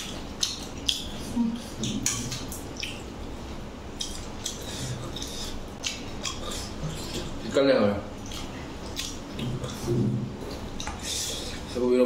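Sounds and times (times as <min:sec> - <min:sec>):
person chewing with open mouth: 0:00.0 - 0:07.4, 0:08.1 - 0:11.8.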